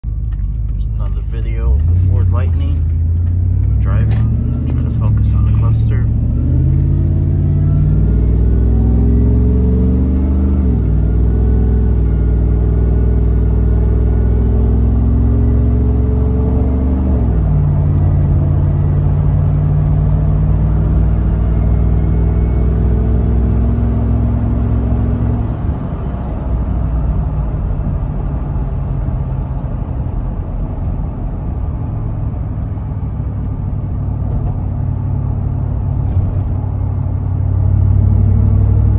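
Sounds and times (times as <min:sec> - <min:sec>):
road noise: 0:00.0 - 0:38.9
truck engine while driving: 0:00.0 - 0:38.9.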